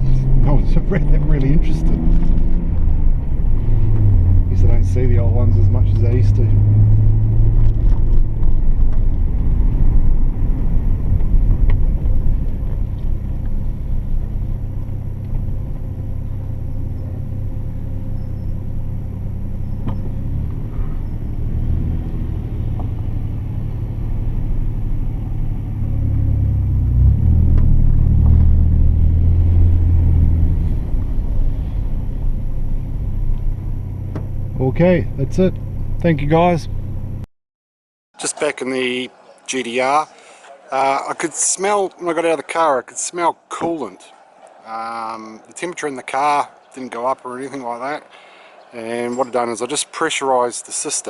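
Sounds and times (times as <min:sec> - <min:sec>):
car engine rumbling: 0:00.0 - 0:37.3, 0:38.2 - 0:51.0
road noise: 0:00.0 - 0:37.3, 0:38.2 - 0:51.0.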